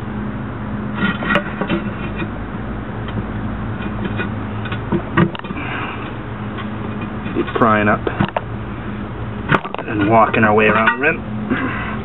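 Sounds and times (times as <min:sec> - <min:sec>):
steady low hum: 0:00.0 - 0:12.0
tire irons clinking on steel rim: 0:00.8 - 0:11.7.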